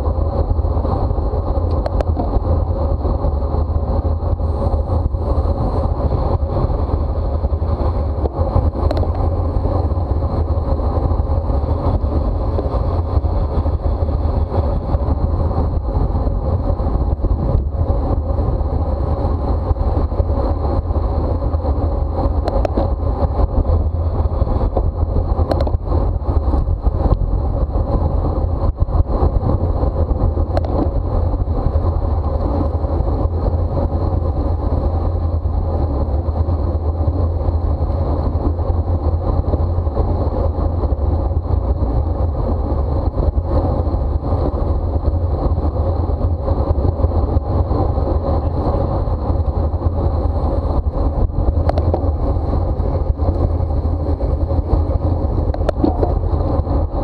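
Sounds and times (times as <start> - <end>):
bicycle tyre and road noise: 0.0 - 57.0
wind rumble on microphone: 0.0 - 57.0.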